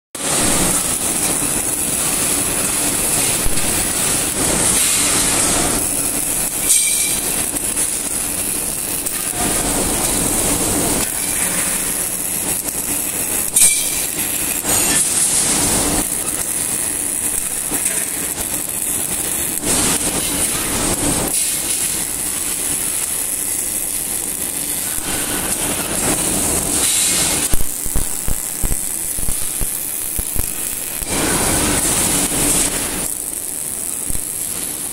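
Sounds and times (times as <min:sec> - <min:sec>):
welding arc crackling and hissing: 0:00.2 - 0:34.9.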